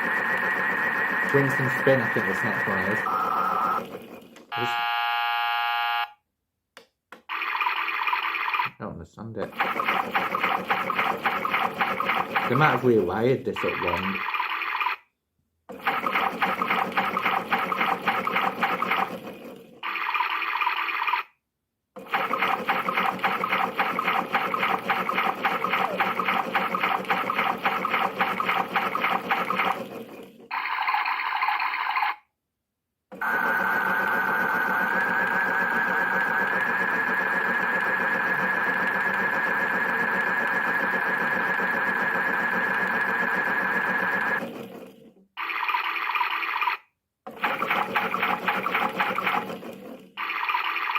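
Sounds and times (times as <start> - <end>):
toy washing machine running: 0.0 - 6.1, 7.2 - 8.7, 9.5 - 15.0, 15.7 - 21.3, 22.0 - 32.2, 33.1 - 50.9.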